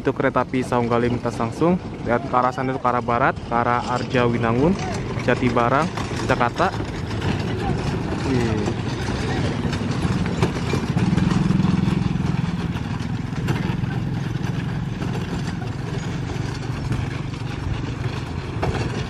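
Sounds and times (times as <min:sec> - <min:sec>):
small vehicle engines running: 0:00.0 - 0:19.0.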